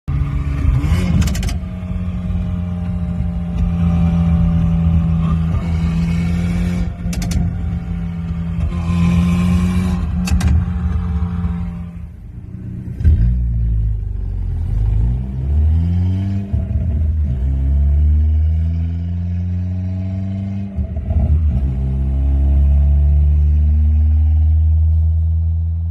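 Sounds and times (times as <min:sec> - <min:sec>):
car engine droning under load: 0:00.1 - 0:25.9.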